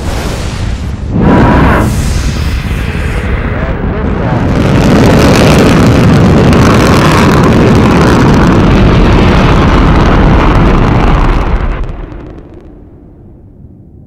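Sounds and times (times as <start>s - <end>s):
rocket engines rumbling: 0.0s - 14.0s.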